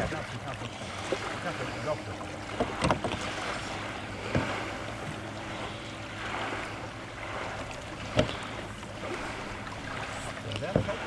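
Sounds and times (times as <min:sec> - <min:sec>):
oar knocking against dinghy: 0:00.0 - 0:05.6, 0:07.2 - 0:11.0
water noise: 0:00.0 - 0:11.0
wind: 0:00.0 - 0:11.0.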